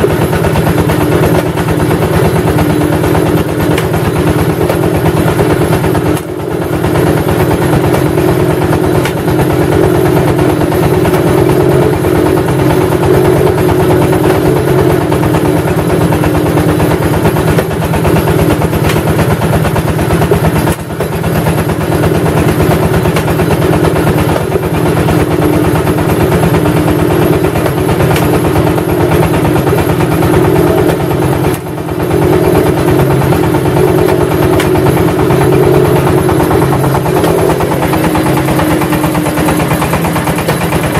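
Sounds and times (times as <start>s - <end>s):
brick press engine running: 0.0s - 40.9s.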